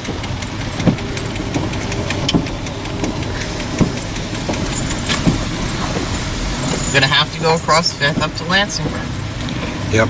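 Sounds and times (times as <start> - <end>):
engine and road rumble: 0.0 - 10.0
rain ticking and tapping: 0.0 - 10.0.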